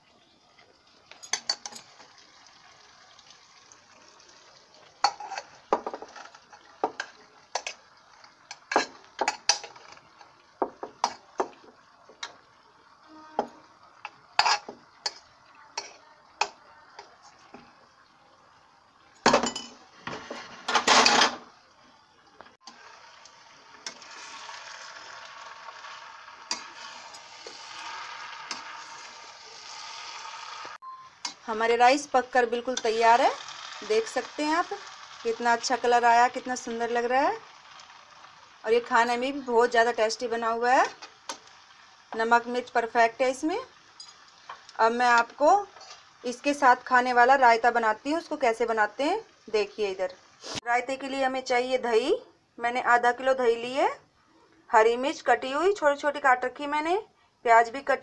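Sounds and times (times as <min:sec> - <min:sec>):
rice sizzling in a pan: 0:00.0 - 0:21.3, 0:22.5 - 0:51.2.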